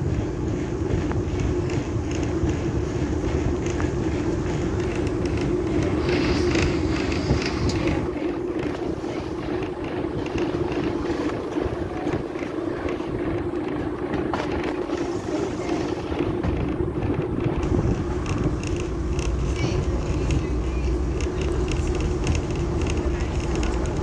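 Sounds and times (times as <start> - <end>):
train running slowly: 0.0 - 24.0.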